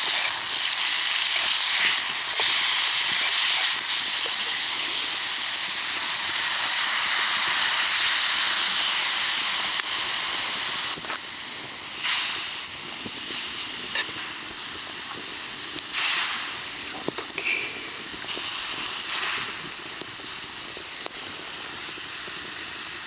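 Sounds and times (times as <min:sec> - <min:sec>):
food sizzling in an iron pot: 0:00.0 - 0:23.0.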